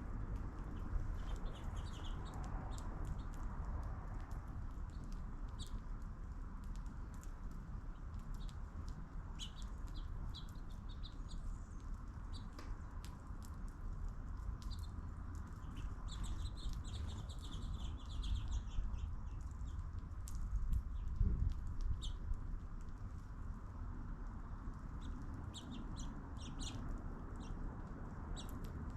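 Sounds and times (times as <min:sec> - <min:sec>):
steady low rumble: 0:00.0 - 0:28.9
small birds chirping: 0:00.3 - 0:23.3, 0:24.3 - 0:28.9.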